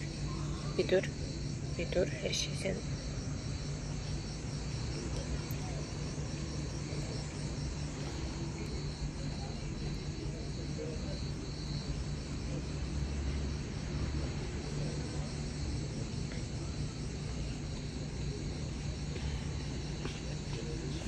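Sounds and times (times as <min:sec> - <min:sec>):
insects chirring: 0:00.0 - 0:21.0
steady low hum: 0:00.0 - 0:21.0.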